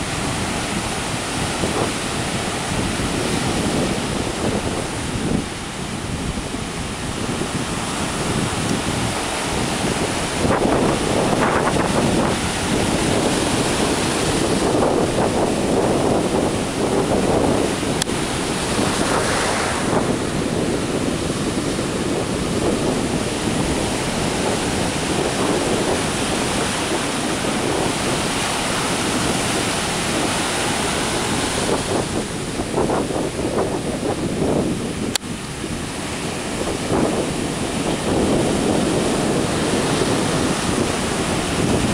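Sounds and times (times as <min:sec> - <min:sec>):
ocean surf breaking: 0:00.0 - 0:41.9
wind buffeting microphone: 0:00.0 - 0:41.9.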